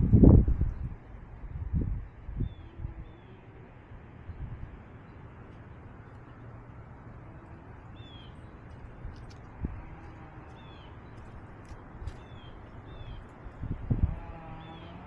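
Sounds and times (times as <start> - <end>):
steady rumbling noise: 0.0 - 15.0.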